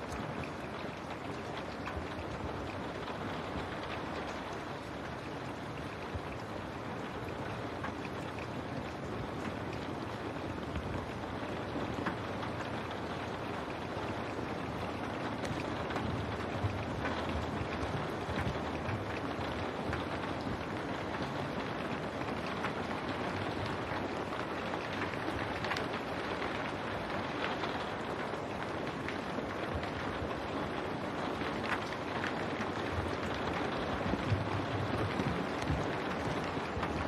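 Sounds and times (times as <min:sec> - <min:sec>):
rain on window glass: 0:00.0 - 0:37.0.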